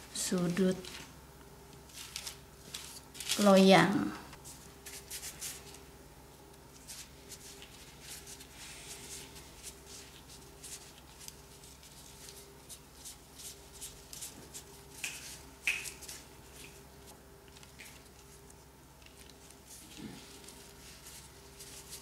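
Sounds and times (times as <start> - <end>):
plastic gloves crinkling: 0.0 - 5.9, 6.6 - 22.0.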